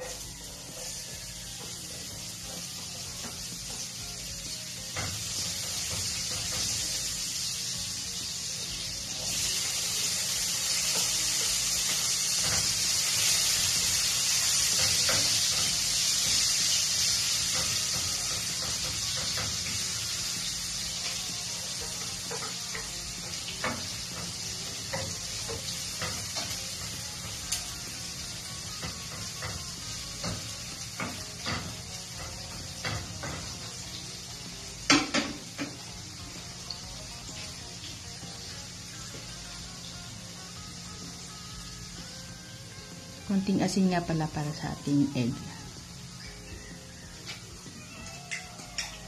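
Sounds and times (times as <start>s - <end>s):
vegetables sizzling in frying pan: 0.0s - 49.0s.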